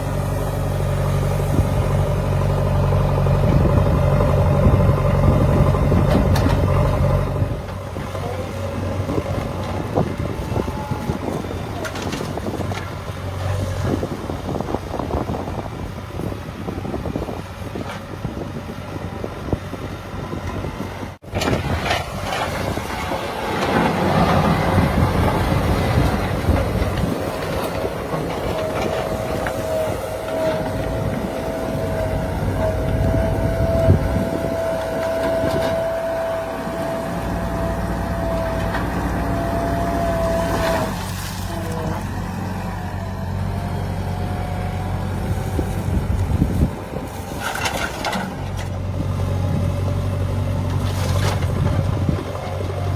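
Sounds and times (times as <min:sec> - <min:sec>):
diesel machinery low rumble: 0:00.0 - 0:52.9.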